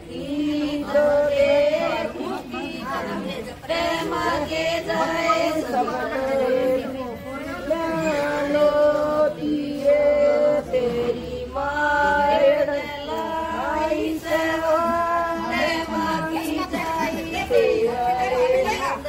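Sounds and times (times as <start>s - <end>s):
women singing together: 0.0s - 19.0s.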